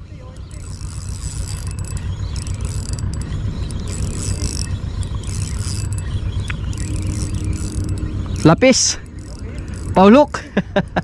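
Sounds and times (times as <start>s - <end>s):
steady low rumble: 0.0s - 11.0s
fishing reel whirring: 0.2s - 11.0s.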